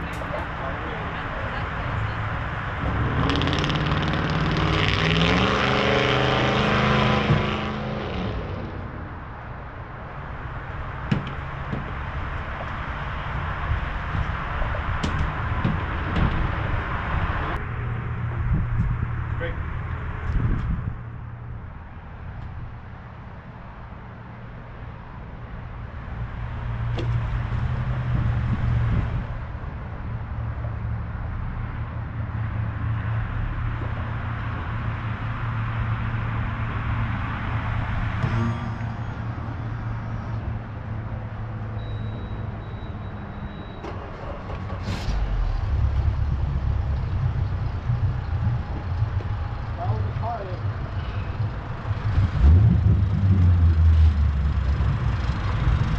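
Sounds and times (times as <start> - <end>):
engine humming: 0.0 - 55.9.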